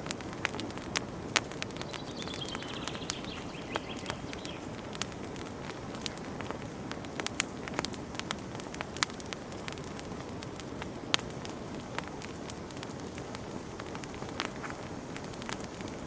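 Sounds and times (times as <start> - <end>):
campfire wood crackling and popping: 0.0 - 16.0
low rush of flame: 0.0 - 16.0.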